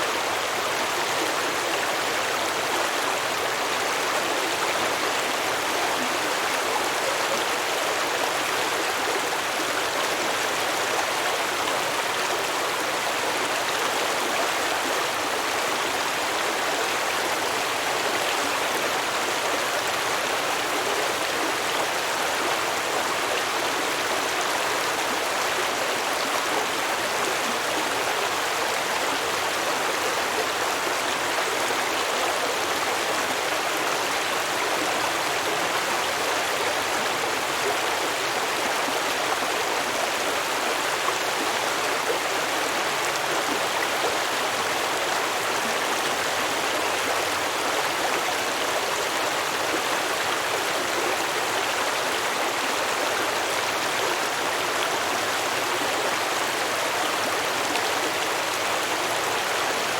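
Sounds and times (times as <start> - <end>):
stream babbling over rocks: 0.0 - 59.9.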